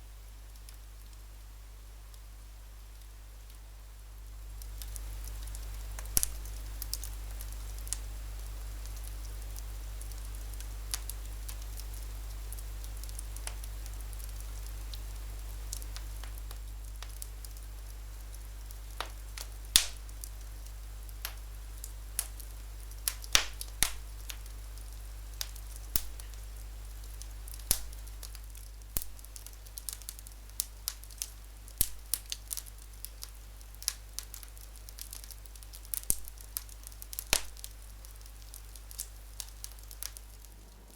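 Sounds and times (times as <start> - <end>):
wood fire crackling: 0.0 - 40.9
sharp pops of fire: 4.6 - 8.1, 8.8 - 40.9.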